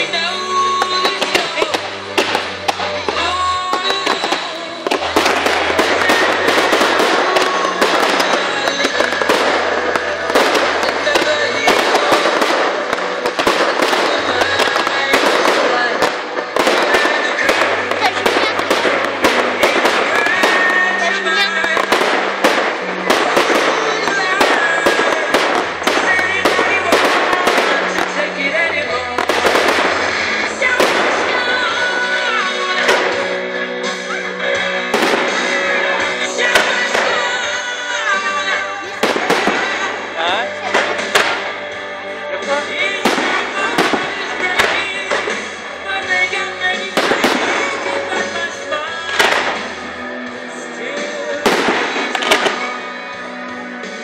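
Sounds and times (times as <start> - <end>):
fireworks crackling and banging: 0.0 - 54.0
music: 0.0 - 54.0.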